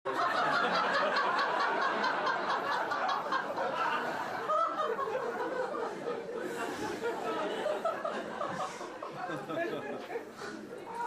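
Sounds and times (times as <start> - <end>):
people laughing: 0.1 - 11.0.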